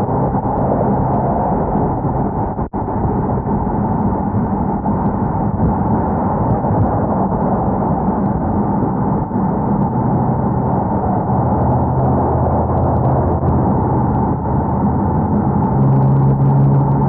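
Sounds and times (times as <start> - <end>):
car engine at high revs: 0.0 - 17.0
road and wind noise: 0.0 - 17.0.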